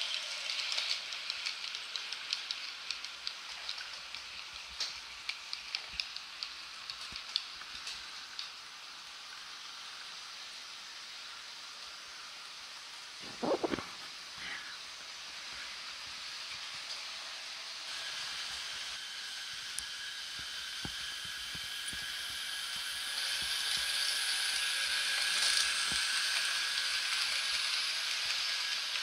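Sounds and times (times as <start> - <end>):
model train whirring: 0.0 - 29.0.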